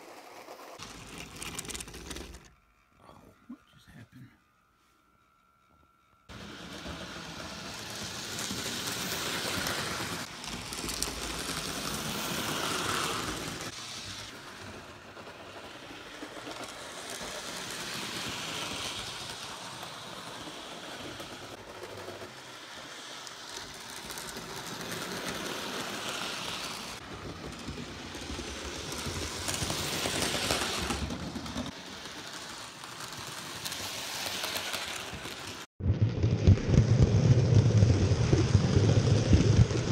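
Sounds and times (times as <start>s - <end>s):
model train wheels rattling: 0.0s - 3.0s, 6.0s - 35.7s.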